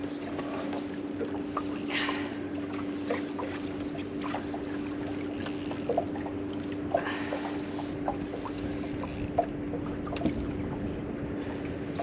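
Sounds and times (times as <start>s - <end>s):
boat engine humming: 0.0s - 12.0s
water slapping against hull: 0.0s - 12.0s.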